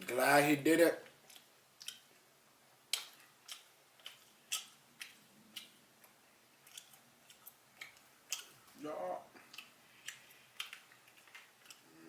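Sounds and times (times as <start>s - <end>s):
chewing food with crunchy clicks: 1.0s - 8.8s, 9.4s - 12.0s.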